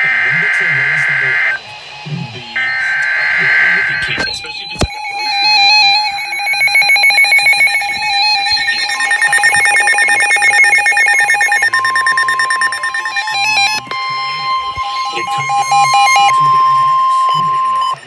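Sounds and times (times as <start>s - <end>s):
rapidly pulsing alert tone: 0.2s - 18.0s
electronic alert tones: 0.8s - 18.0s.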